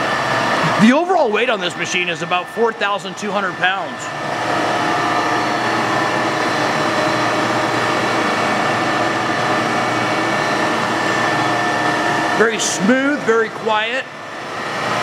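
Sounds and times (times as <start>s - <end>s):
lathe spindle hum: 0.0s - 15.0s
steady whining tones: 0.0s - 15.0s.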